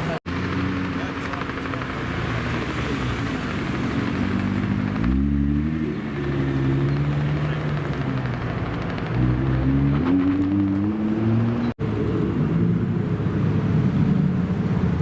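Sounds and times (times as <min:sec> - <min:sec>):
car engine revving: 0:00.3 - 0:14.9.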